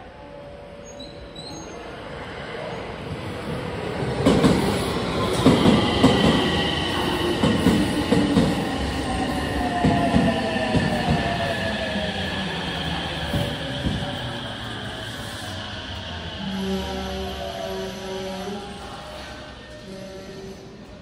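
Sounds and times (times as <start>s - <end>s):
falling train whine: 0.0s - 21.0s.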